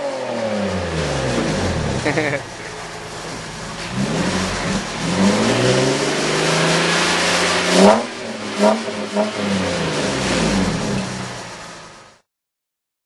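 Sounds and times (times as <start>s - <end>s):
car exhaust revving: 0.0s - 12.2s.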